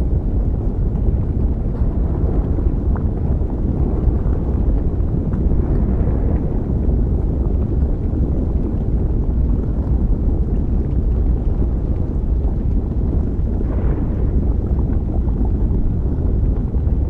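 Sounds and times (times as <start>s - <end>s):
deep steady rumble: 0.0s - 17.0s.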